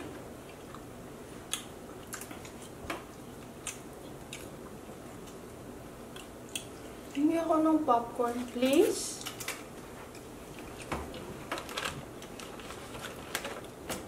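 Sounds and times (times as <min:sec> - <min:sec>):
people chewing food: 0:00.0 - 0:07.3, 0:09.2 - 0:13.9.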